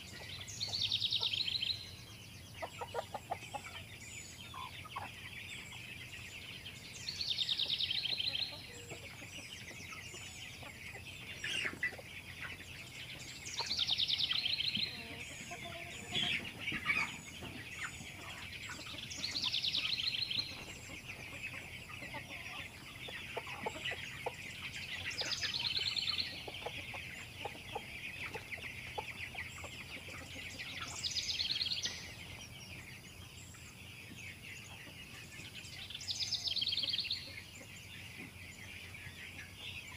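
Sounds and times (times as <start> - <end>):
chickens peeping and calling: 0.0 - 39.9.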